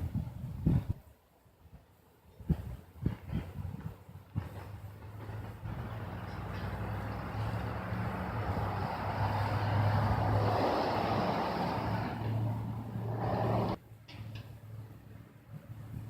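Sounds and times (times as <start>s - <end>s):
engine running low hum: 2.5s - 16.0s.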